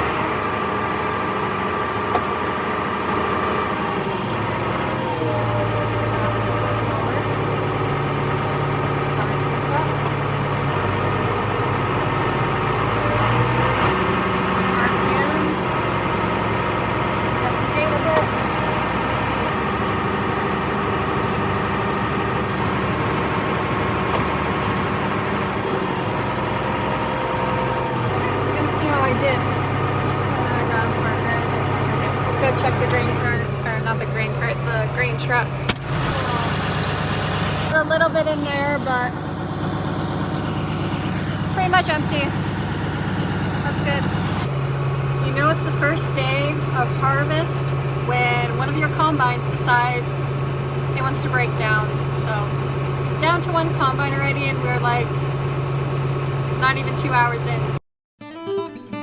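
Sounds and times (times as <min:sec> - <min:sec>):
tractor engine running: 0:00.0 - 0:57.8.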